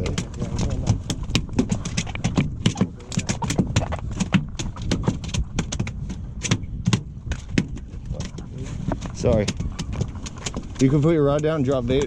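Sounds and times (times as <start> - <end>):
sharp knocks and clicks: 0.0 - 12.0.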